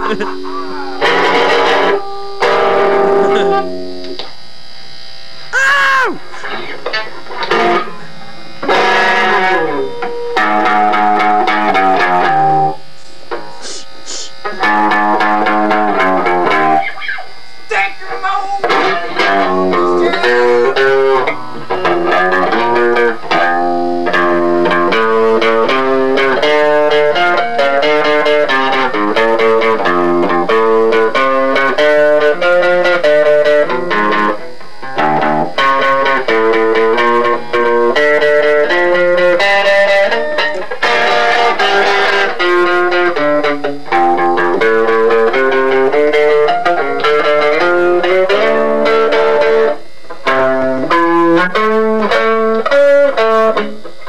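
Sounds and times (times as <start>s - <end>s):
lead guitar single notes: 0.0s - 13.8s, 14.4s - 54.0s.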